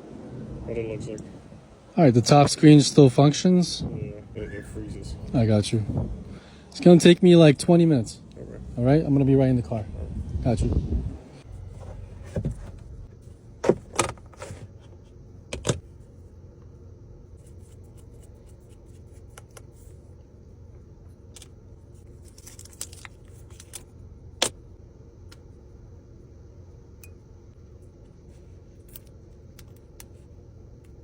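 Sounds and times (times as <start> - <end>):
low hum inside vehicle: 0.0 - 31.0.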